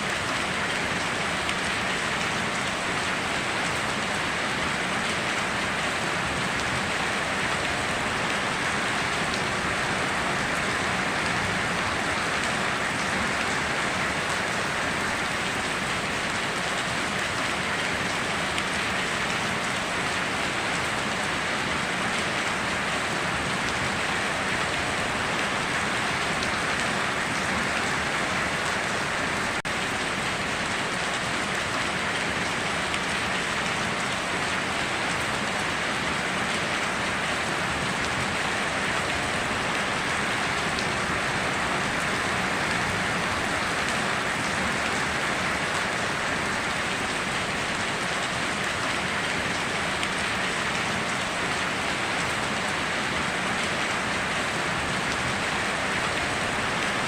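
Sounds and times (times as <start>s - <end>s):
steady rain pouring: 0.0s - 57.0s.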